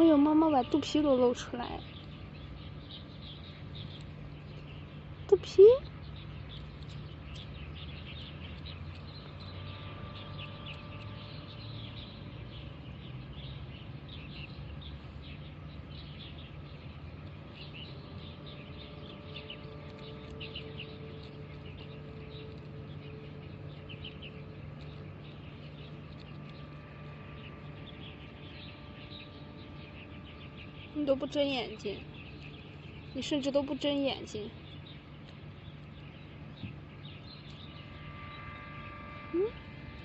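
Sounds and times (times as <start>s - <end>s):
low steady hum: 0.0s - 40.0s
small birds chirping: 0.0s - 40.0s.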